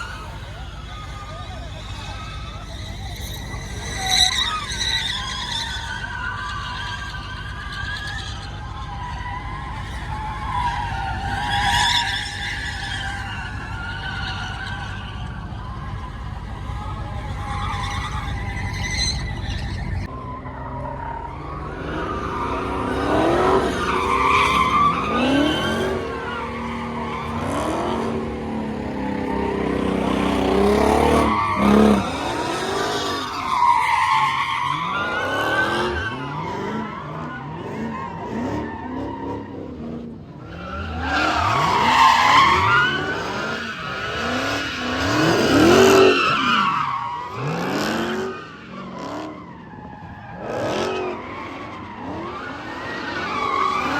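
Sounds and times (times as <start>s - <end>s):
car engines revving: 0.0s - 53.9s
tires squealing: 0.0s - 53.9s.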